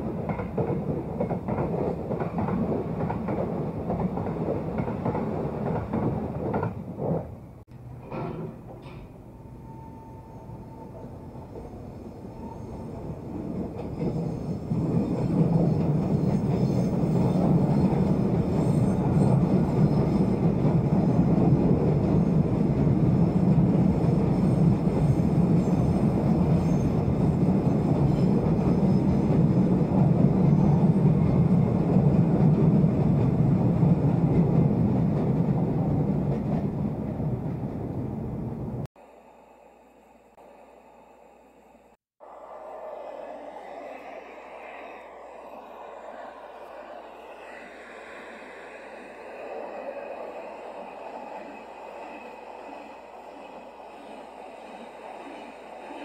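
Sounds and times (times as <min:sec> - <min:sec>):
train wheels rumbling on rail: 0:00.0 - 0:38.9, 0:42.4 - 0:56.0.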